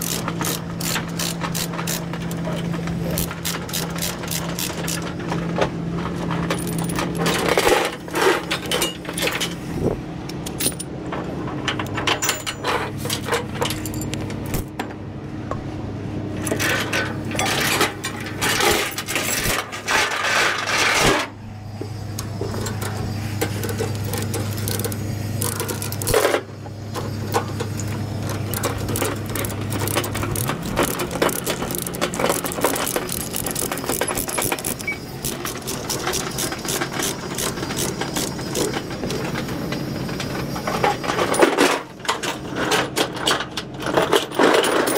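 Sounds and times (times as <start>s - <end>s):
chains clanking on trailer deck: 0.0s - 5.4s, 6.0s - 9.6s, 10.4s - 14.7s, 16.4s - 21.4s, 22.2s - 44.9s
steady low hum: 0.0s - 42.8s.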